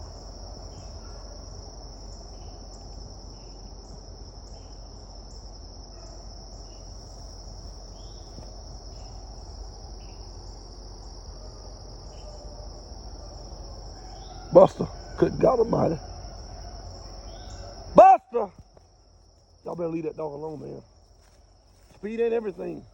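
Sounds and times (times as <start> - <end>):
continuous insect trill: 0.0 - 22.9
insect chirping in pulses: 0.0 - 22.9.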